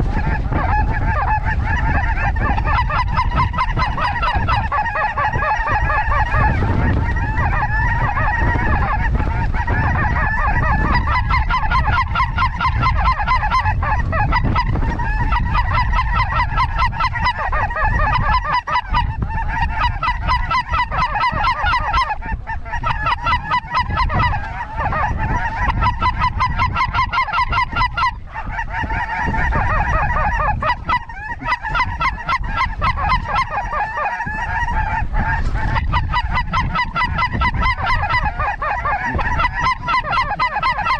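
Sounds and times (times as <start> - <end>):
snow geese honking: 0.0 - 40.9
wind rumble on microphone: 0.0 - 40.9.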